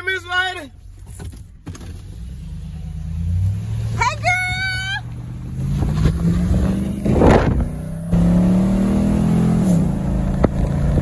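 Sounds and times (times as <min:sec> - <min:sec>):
vehicle engine accelerating: 0:02.0 - 0:11.0.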